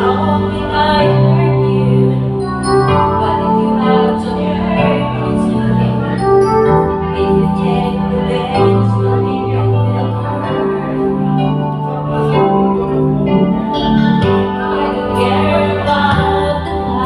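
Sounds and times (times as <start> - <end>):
bass line: 0.0 - 17.0
electronic organ chords: 0.0 - 17.0.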